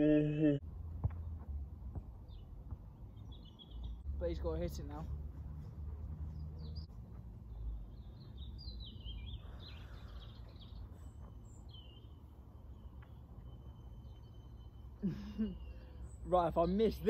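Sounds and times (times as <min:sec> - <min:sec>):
small birds chirping: 0:01.1 - 0:17.0.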